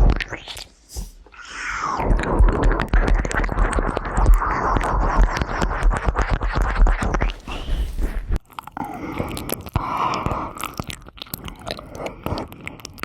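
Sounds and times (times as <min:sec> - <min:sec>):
wet licking mouth sounds: 0:02.1 - 0:13.0.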